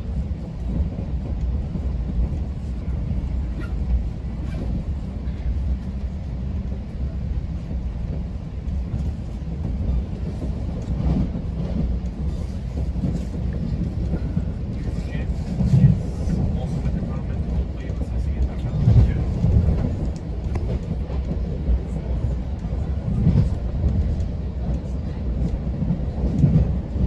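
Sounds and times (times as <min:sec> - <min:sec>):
low rumble inside train coach: 0:00.0 - 0:27.0.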